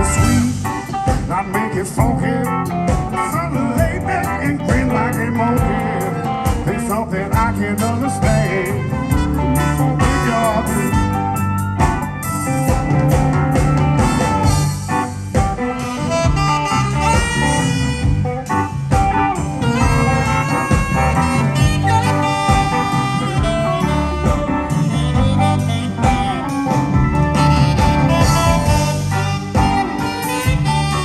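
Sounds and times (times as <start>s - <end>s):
live blues band playing: 0.0s - 31.0s.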